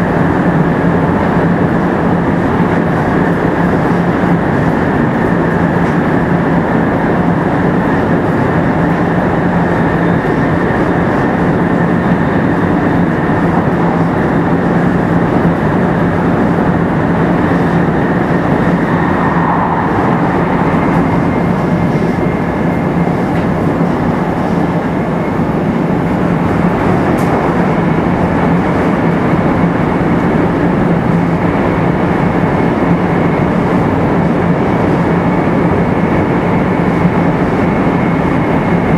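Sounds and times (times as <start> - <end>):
constant low hum: 0.0 - 38.9
train wheels rumbling on track: 0.0 - 38.9.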